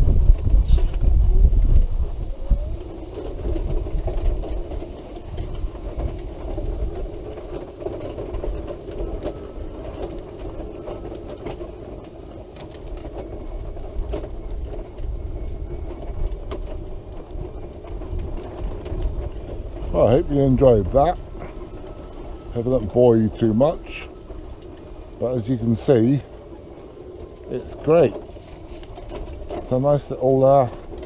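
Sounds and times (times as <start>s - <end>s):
wheelchair rolling on road: 0.0s - 31.0s
wheels clicking and rattling: 0.0s - 31.0s.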